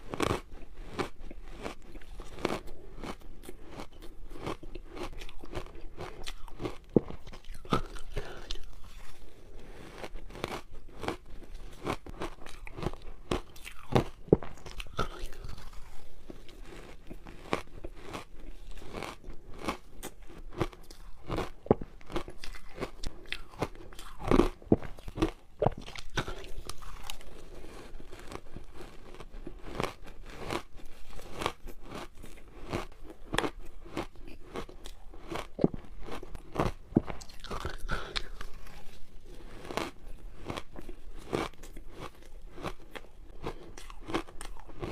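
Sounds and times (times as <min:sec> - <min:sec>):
ice crunching being chewed: 0:00.0 - 0:44.9.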